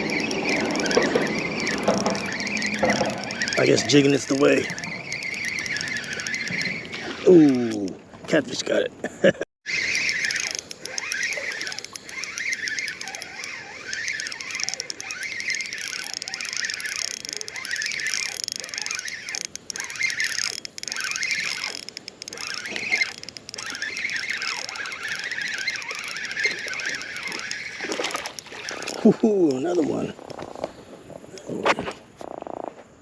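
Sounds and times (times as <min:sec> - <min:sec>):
fishing reel squeaking and clicking: 0:00.0 - 0:08.0, 0:09.7 - 0:30.7.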